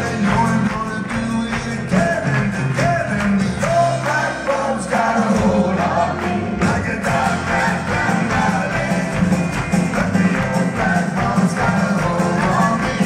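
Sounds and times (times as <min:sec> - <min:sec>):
drums: 0:00.0 - 0:13.0
electric bass: 0:00.0 - 0:13.0
man singing lead: 0:00.0 - 0:13.0
strummed acoustic guitar: 0:00.0 - 0:13.0.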